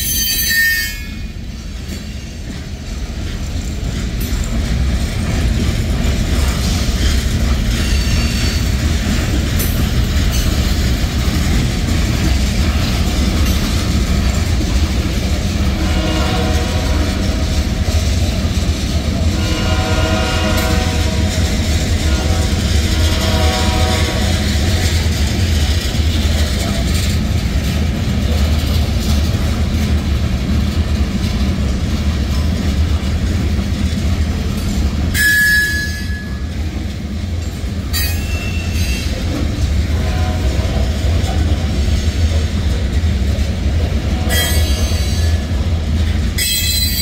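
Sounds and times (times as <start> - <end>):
freight cars rumbling and clattering: 1.1 - 47.0.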